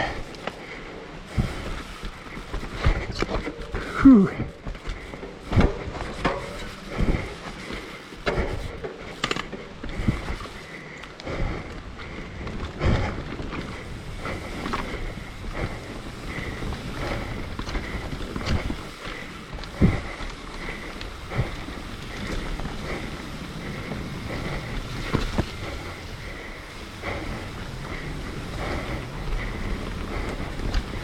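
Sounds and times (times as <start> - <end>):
bike knocks and rattles: 0.0 - 31.0
bike tyres on dirt: 0.0 - 31.0.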